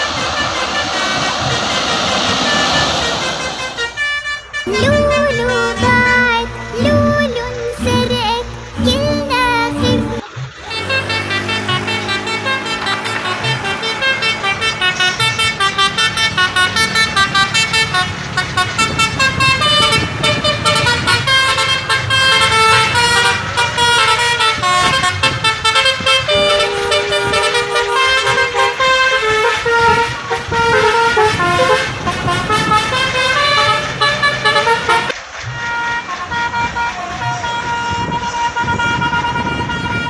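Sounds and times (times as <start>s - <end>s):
multi-tone air horn melody: 0.0s - 40.0s.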